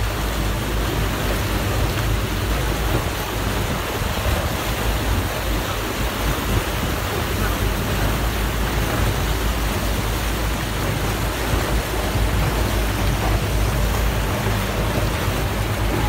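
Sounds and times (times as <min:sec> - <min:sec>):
churning wake water: 0:00.0 - 0:16.0
speedboat engine drone: 0:00.0 - 0:16.0
wind on microphone: 0:00.0 - 0:16.0.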